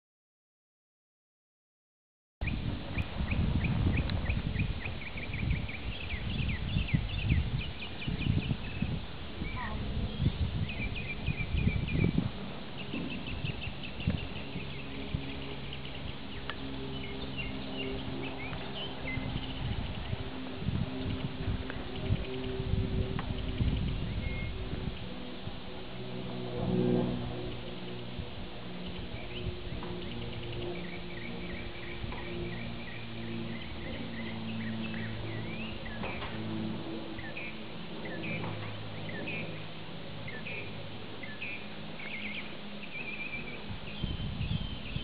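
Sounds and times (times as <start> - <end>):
small birds chirping: 2.4 - 25.2, 28.7 - 45.0
low steady hum: 2.4 - 45.0
steady low drone: 2.4 - 45.0.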